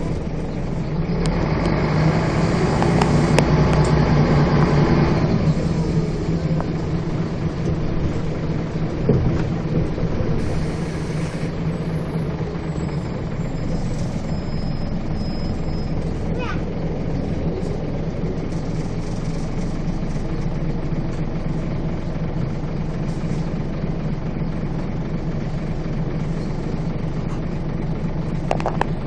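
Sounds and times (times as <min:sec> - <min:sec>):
bus engine running: 0:00.0 - 0:29.0.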